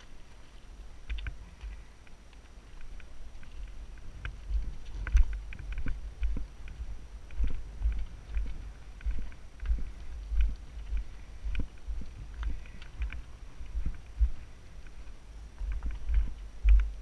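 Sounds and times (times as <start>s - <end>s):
bike clicks and rattles: 0.0s - 17.0s.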